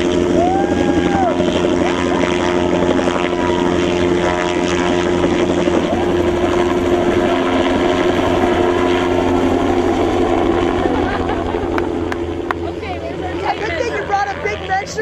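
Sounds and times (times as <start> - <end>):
helicopter drone overhead: 0.0 - 15.0.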